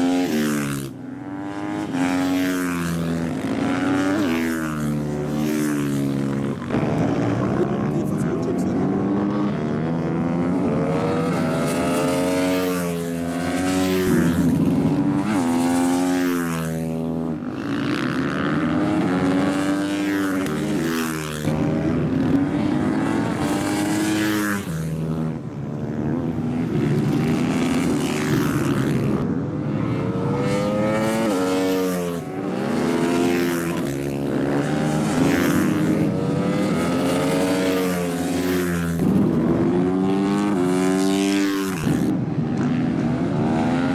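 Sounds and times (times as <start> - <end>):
motorcycle engines racing: 0.0 - 43.9.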